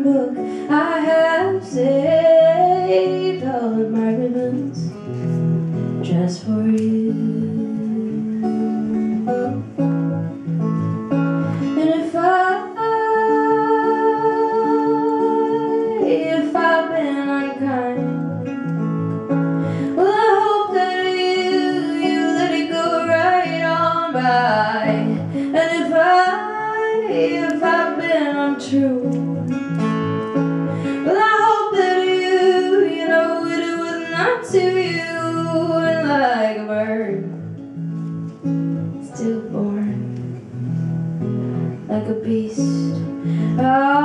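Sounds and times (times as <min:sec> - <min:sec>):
woman singing: 0:00.0 - 0:05.1, 0:06.0 - 0:09.6, 0:11.4 - 0:18.6, 0:19.2 - 0:37.6, 0:39.0 - 0:40.3, 0:41.9 - 0:44.0
acoustic guitar: 0:00.0 - 0:44.0.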